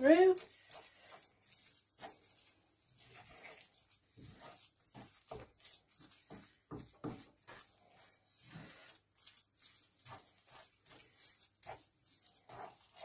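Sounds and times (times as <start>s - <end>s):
wooden spoon stirring risotto: 0.0s - 13.0s.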